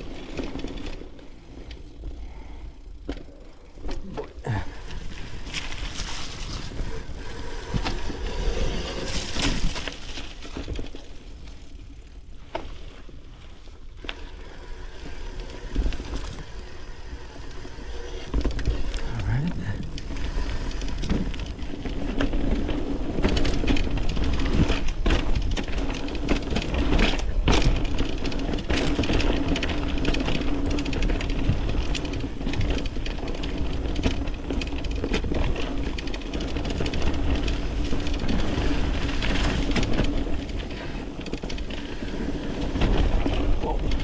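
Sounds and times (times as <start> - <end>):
bike tyres rumbling and rattling: 0.0 - 44.0.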